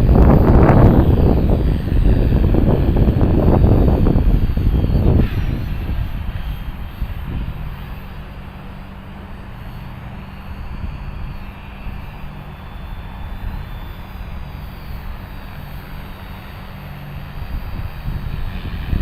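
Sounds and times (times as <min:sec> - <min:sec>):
rc helicopter hovering: 0:00.0 - 0:19.0
wind rumble on microphone: 0:00.0 - 0:19.0.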